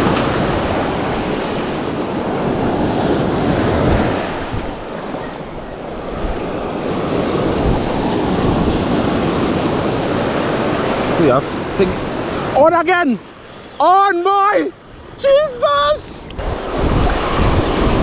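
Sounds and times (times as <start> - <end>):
surf breaking on sand: 0.0 - 18.0
wind buffeting microphone: 0.0 - 18.0.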